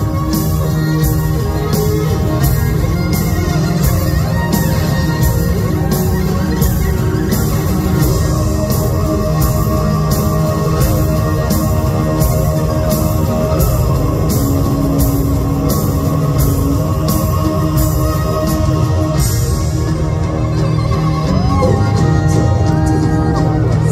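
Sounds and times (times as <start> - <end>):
bowed folk strings: 0.0 - 23.9
distorted guitars: 0.0 - 23.9
drums: 0.0 - 23.9.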